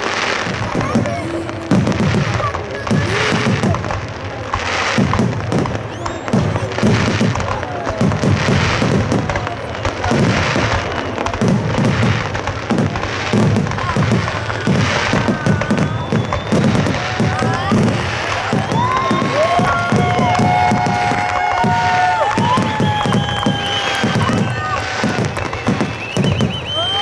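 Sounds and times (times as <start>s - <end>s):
fireworks booming: 0.0s - 27.0s
fireworks crackling: 0.0s - 27.0s.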